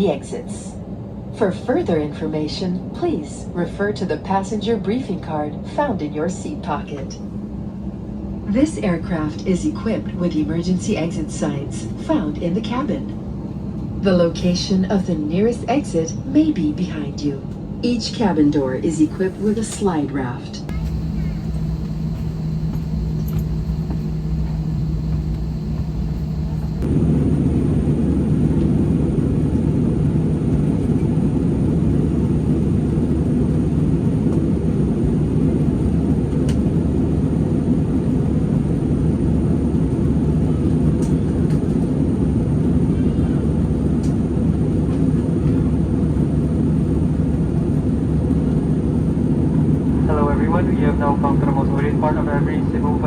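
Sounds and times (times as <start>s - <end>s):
airliner cabin engine drone: 0.0s - 53.0s.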